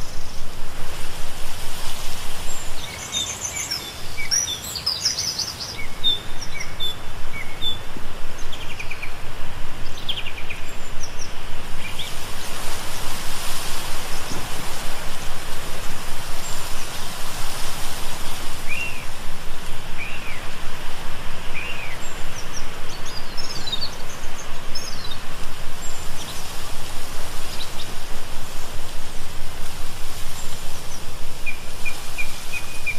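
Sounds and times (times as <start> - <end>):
loud steady rushing noise: 0.0 - 4.8, 5.5 - 32.9
small birds chirping: 1.9 - 29.0, 29.9 - 32.9.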